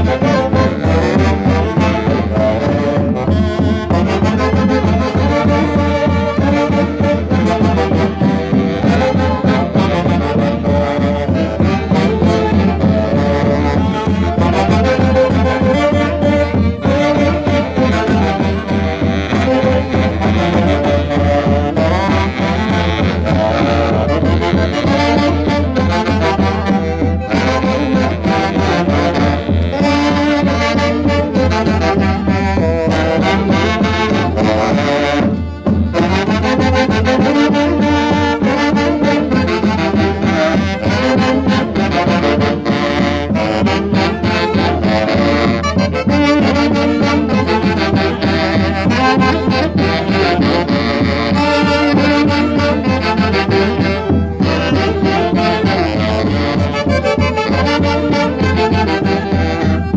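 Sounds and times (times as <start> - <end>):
brass band dance music: 0.0 - 59.9.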